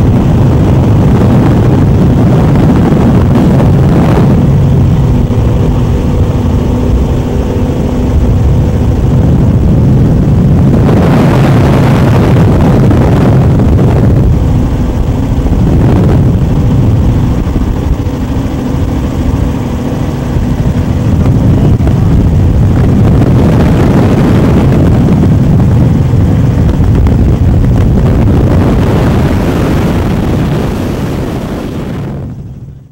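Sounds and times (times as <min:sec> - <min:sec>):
powerboat engines droning: 0:00.0 - 0:32.8.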